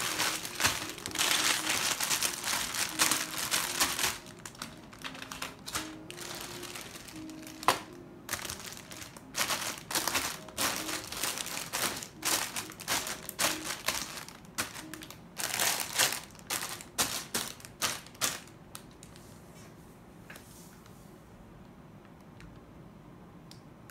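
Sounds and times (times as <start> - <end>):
plastic bags crinkling: 0.0 - 19.2.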